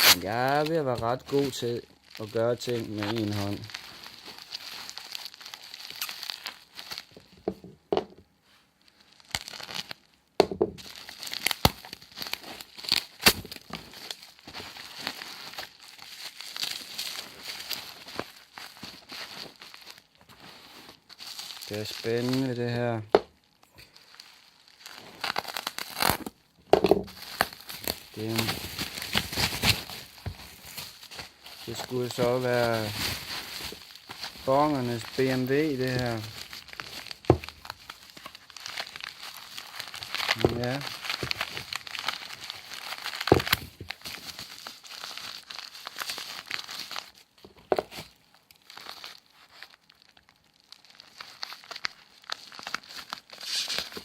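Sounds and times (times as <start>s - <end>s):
packaging crinkling and tearing: 0.0s - 7.4s, 8.9s - 10.2s, 10.8s - 54.0s.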